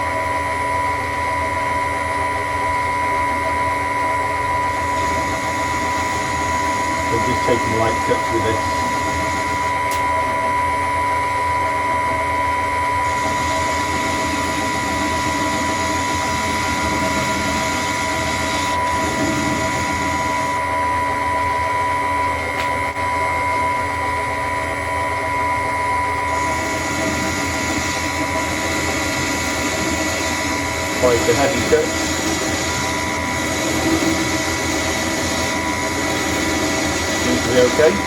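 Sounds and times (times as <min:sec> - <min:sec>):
lathe whine: 0:00.0 - 0:38.0.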